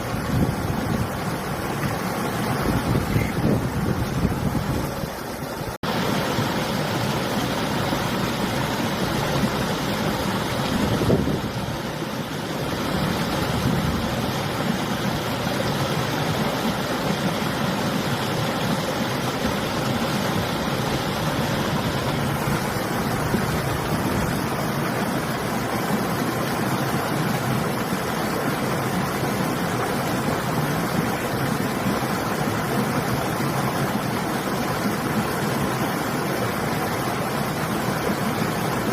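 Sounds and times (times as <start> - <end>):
river flowing: 0.0 - 38.9
wind: 0.0 - 38.9.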